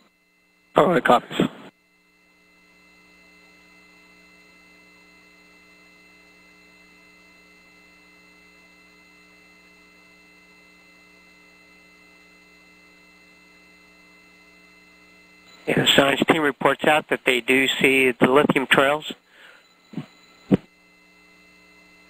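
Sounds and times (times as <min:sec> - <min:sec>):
faint electrical hum: 0:00.0 - 0:22.0
thin steady tones: 0:01.7 - 0:22.0.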